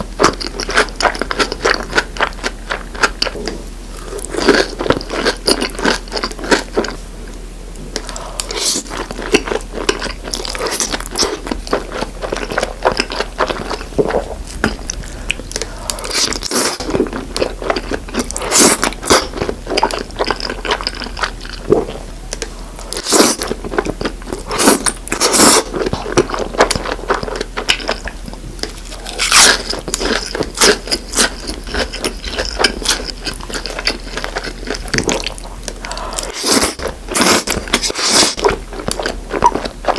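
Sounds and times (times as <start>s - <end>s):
crunchy chewing: 0.1s - 39.9s.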